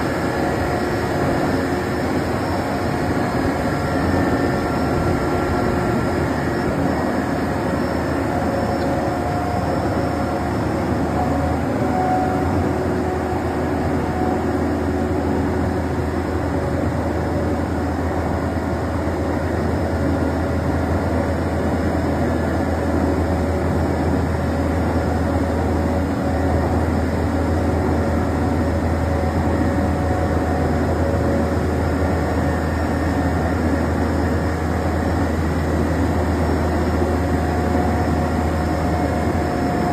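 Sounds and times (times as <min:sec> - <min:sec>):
faint wavering whine: 0:00.0 - 0:39.9.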